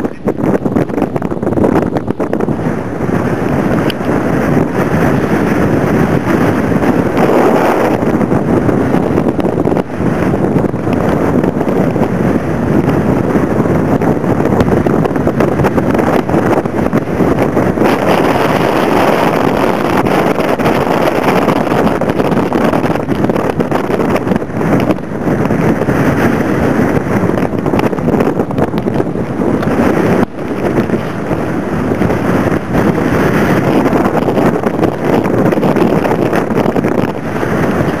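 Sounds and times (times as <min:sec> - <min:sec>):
blizzard wind buffeting microphone: 0:00.0 - 0:38.0.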